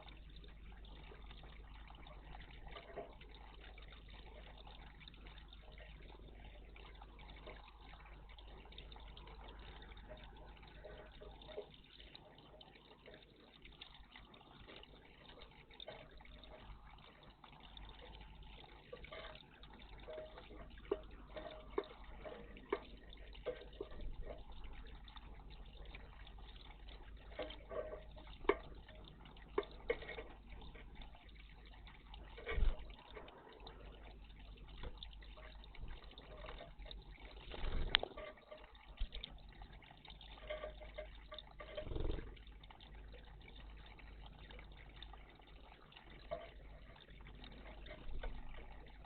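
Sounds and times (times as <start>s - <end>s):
water splashing and dripping: 0.0s - 49.0s.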